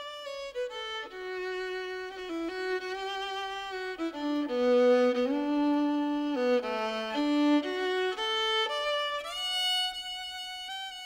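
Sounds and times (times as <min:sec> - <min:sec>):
single melody instrument: 0:00.0 - 0:11.0.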